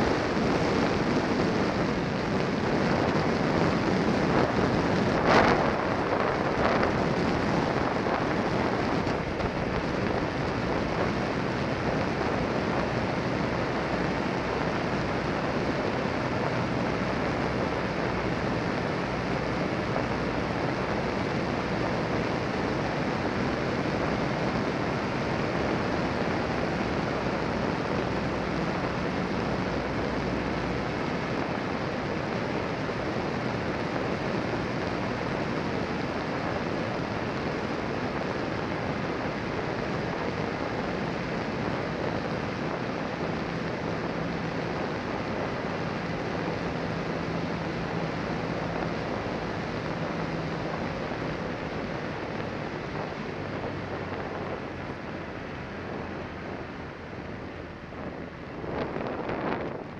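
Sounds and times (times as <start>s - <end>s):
faint motorcycle engine hum: 0.0s - 59.9s
wind and road rush: 0.0s - 59.9s.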